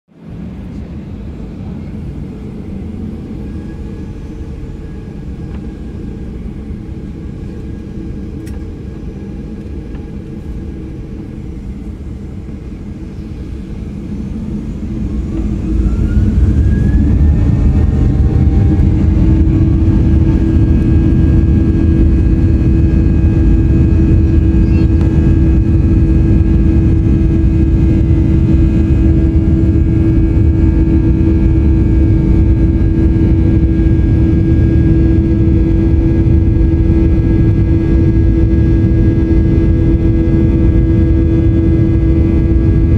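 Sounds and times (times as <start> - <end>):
jet engines spooling up: 0.2 - 42.9.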